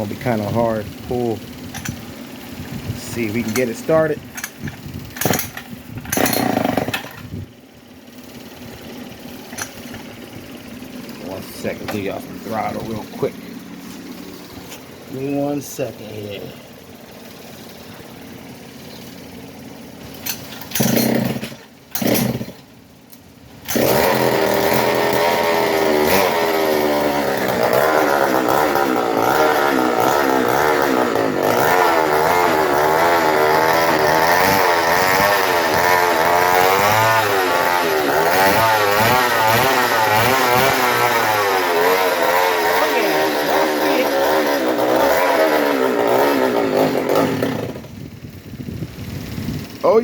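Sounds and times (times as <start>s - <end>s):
two-stroke engine revving: 0.0s - 50.0s.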